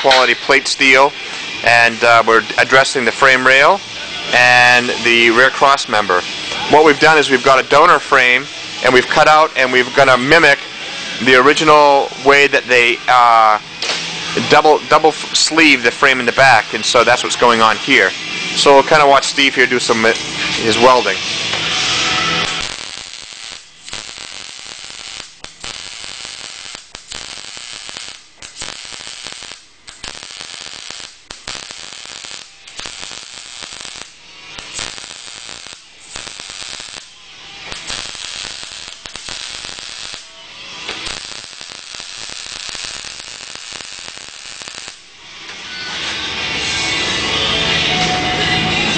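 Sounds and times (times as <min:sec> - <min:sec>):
arc welding crackling hiss: 0:00.0 - 0:47.2.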